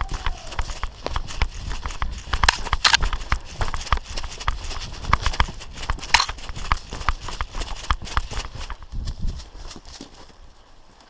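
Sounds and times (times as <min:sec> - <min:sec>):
gear rustling: 0:00.0 - 0:11.0
running footsteps: 0:00.0 - 0:11.0.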